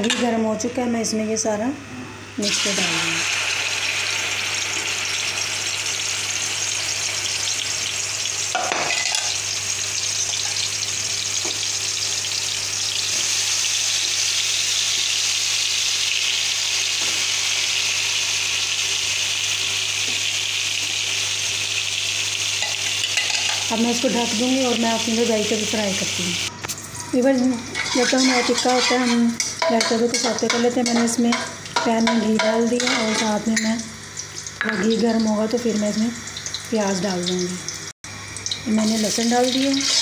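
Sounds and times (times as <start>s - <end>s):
chicken frying hiss: 2.4s - 26.8s, 30.4s - 40.0s.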